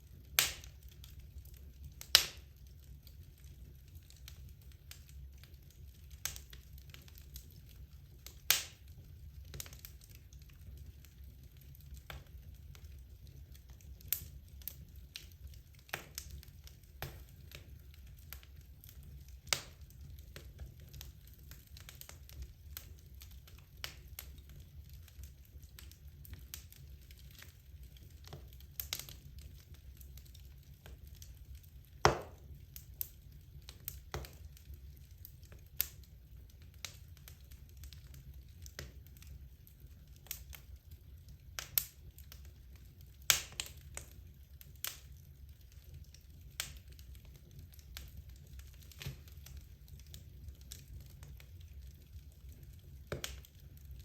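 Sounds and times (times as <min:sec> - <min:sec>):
fireplace logs crackling and popping: 0:00.0 - 0:54.0
low rumble of fire: 0:00.0 - 0:54.0.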